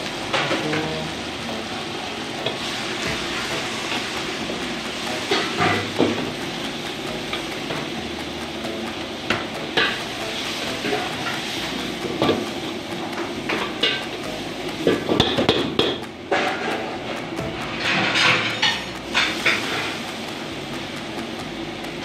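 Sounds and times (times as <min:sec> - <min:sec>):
frying sizzle: 0:00.0 - 0:22.0.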